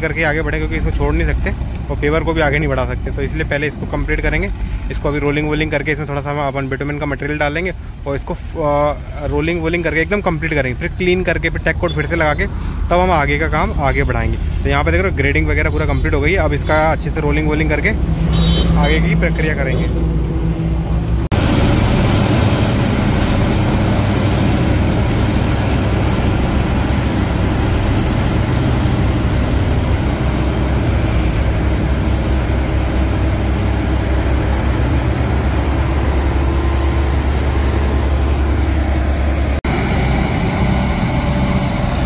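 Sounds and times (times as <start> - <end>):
diesel roller engine rumbling: 0.0 - 42.0.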